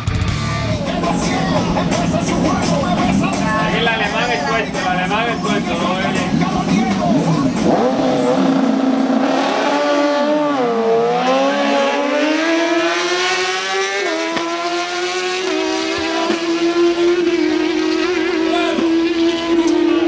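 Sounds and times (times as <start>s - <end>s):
superbikes accelerating: 0.0s - 20.0s.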